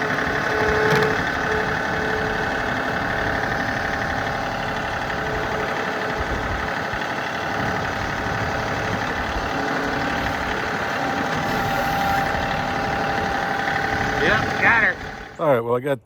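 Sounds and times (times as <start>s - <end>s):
tractor engine running: 0.0s - 15.7s.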